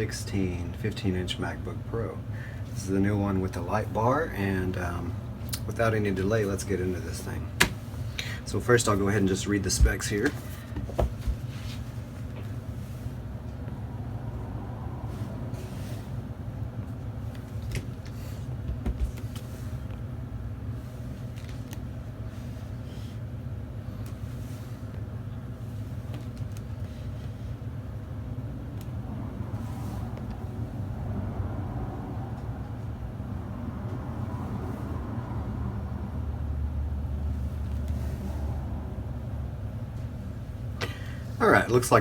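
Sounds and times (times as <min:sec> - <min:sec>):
low machine rumble: 0:00.0 - 0:42.0.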